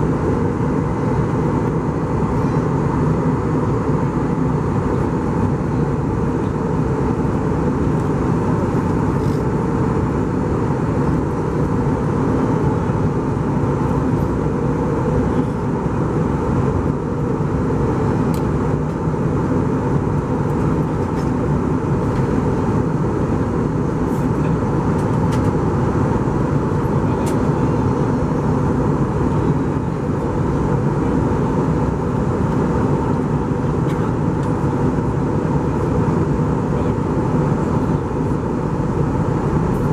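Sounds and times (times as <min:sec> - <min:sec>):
airplane cabin engine rumble: 0:00.0 - 0:39.9
faint steady hum: 0:00.0 - 0:39.9.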